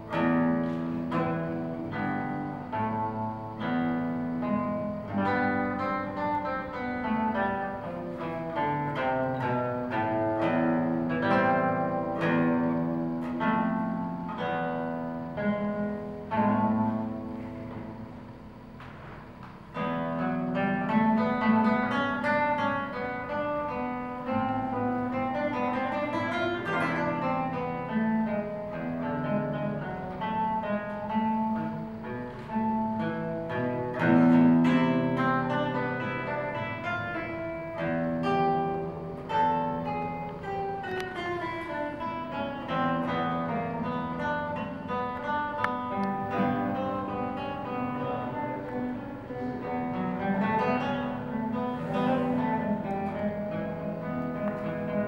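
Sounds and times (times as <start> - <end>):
classical guitar fingerstyle: 0.0 - 55.0.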